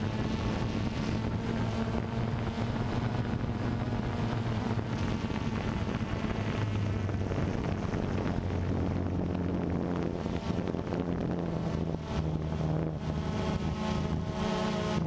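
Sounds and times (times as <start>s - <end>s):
drone propellers humming: 0.0s - 15.0s
wind rushing over microphone: 0.0s - 15.0s.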